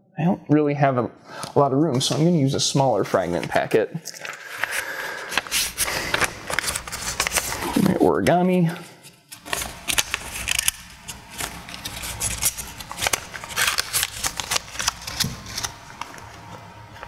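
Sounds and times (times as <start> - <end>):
paper rustling and crackling: 3.1 - 17.0.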